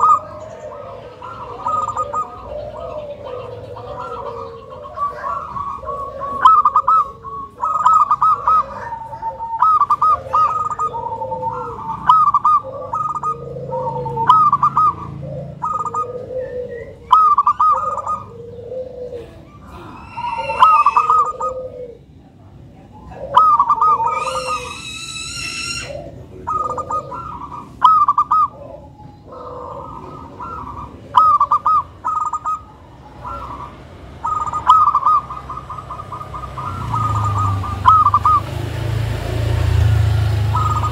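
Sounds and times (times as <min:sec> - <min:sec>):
higher drawn-out bird call: 0:00.0 - 0:22.0, 0:23.0 - 0:38.9, 0:39.7 - 0:40.9
dove cooing: 0:00.0 - 0:40.9.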